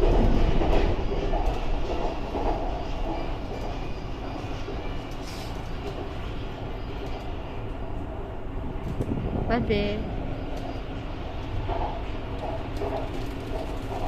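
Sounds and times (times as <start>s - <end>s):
wheel and track noise: 0.0s - 8.2s, 10.5s - 14.0s
metro train rumbling: 0.0s - 14.0s.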